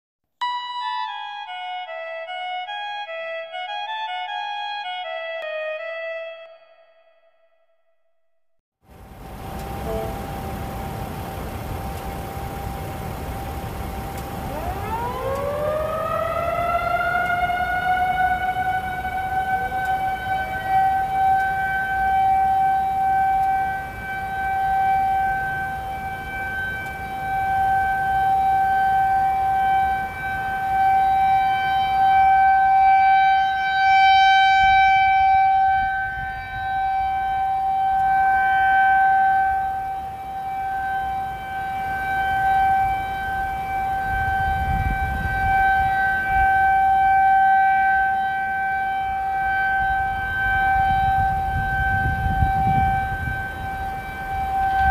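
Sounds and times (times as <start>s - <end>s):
rotating warning siren: 0.4s - 7.8s, 8.8s - 54.9s.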